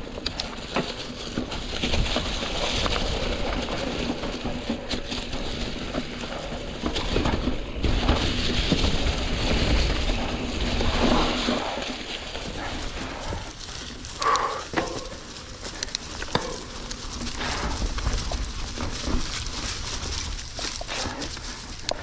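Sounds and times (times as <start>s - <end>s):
bike tyres crunching dry leaves: 0.0s - 22.0s.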